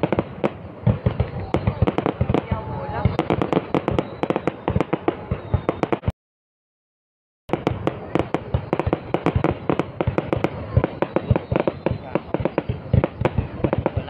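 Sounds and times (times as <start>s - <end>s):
fireworks bangs and crackles: 0.0s - 6.1s, 7.5s - 14.0s.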